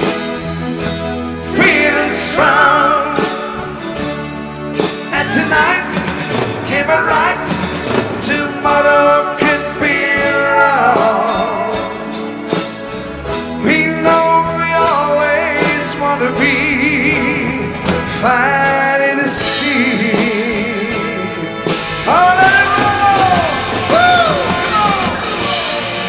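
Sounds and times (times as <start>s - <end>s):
instrumental accompaniment: 0.0s - 26.0s
person singing with vibrato: 1.4s - 4.1s, 5.0s - 12.4s, 13.6s - 25.5s.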